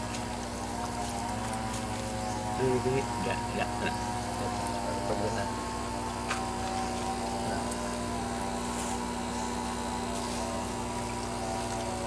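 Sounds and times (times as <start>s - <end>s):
electric pump motor humming: 0.0s - 12.0s.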